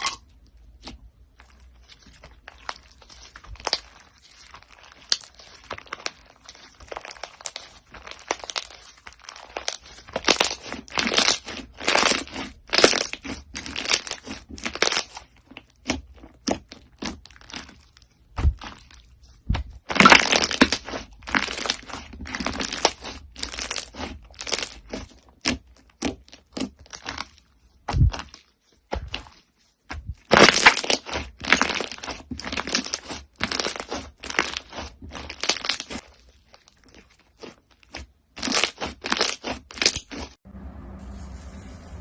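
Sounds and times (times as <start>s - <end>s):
crunchy slime crackling: 0.0s - 40.4s.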